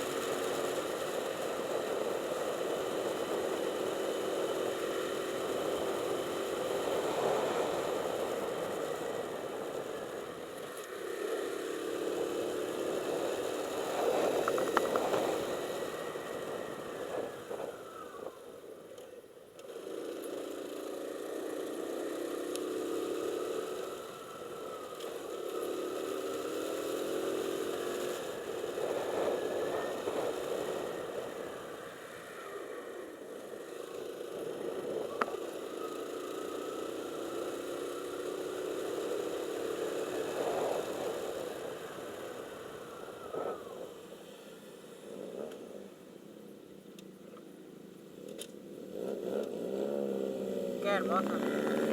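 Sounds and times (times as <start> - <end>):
motorcycle engine revving: 0.0 - 18.6, 19.6 - 51.9
road and wind noise: 0.0 - 51.9.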